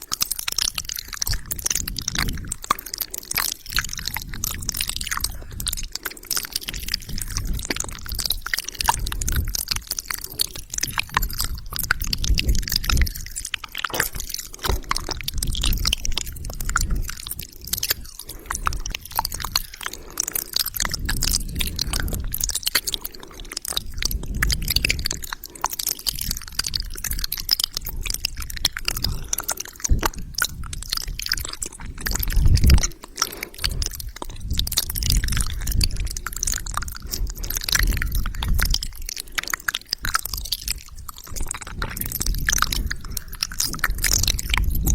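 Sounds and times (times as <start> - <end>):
wet mouth clicks and smacks: 0.0 - 44.9.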